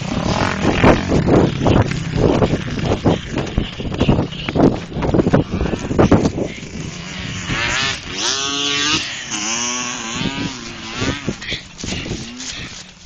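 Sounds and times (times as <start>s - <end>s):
atv engine revving: 0.0s - 12.9s.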